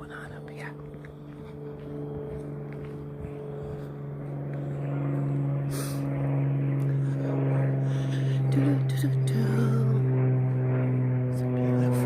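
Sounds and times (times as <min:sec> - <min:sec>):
engine hum: 0:00.0 - 0:12.0.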